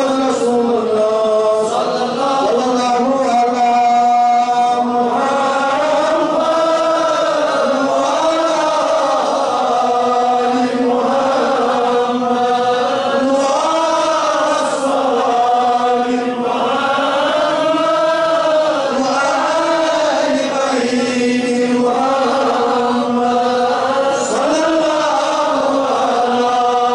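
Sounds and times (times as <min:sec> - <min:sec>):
man chanting melodically: 0:00.0 - 0:26.9.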